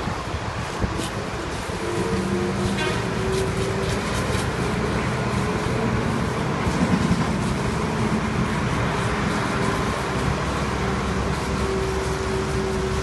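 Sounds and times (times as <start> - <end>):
diesel machinery rumbling: 0.0 - 13.0
fire hose water spraying: 0.0 - 13.0.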